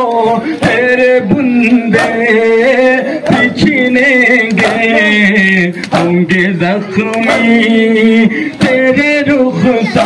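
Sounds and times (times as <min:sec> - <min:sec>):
man chanting a lament: 0:00.0 - 0:10.0.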